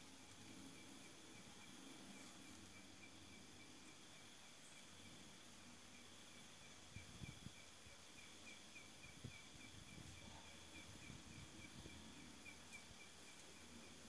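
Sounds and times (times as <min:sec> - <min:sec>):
cricket chirping: 0:00.0 - 0:14.0
high insect hum: 0:00.0 - 0:14.0.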